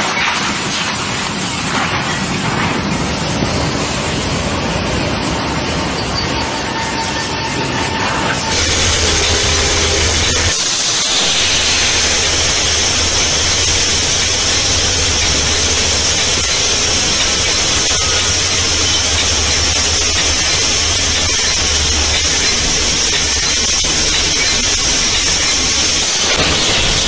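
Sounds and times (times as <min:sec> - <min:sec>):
train rail running noise: 0:00.0 - 0:27.0.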